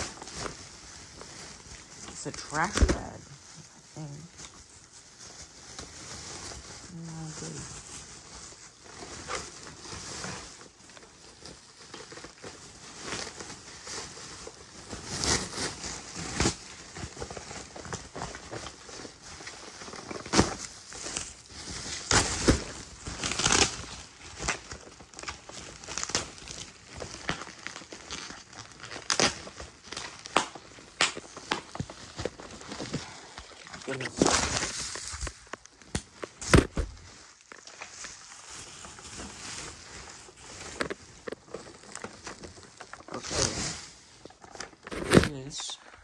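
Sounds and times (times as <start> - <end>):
plastic wrapping crinkling and tearing: 0.0 - 46.0.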